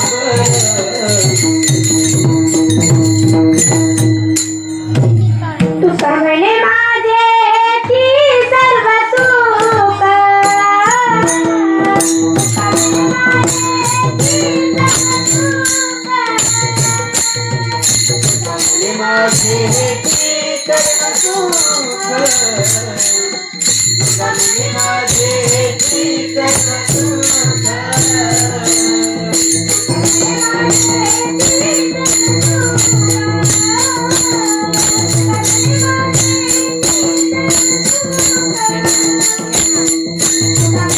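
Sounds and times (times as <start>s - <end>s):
hand cymbals jingling: 0.0s - 5.5s, 9.1s - 40.9s
woman singing: 5.4s - 40.9s.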